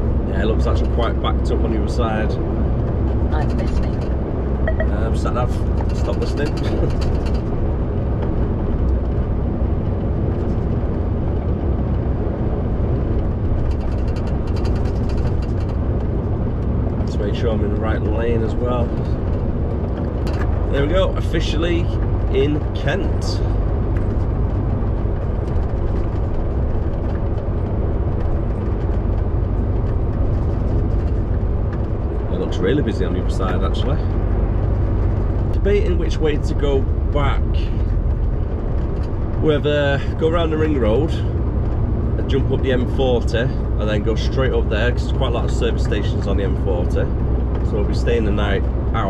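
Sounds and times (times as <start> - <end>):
diesel engine rumble: 0.0 - 49.0
tyres on road: 0.0 - 49.0.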